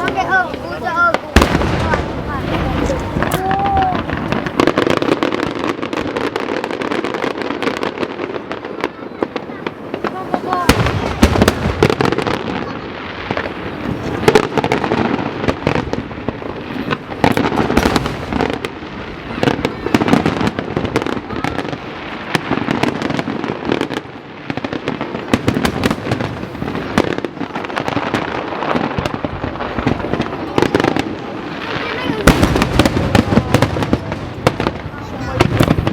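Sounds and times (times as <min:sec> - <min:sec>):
fireworks bursting: 0:00.0 - 0:35.9.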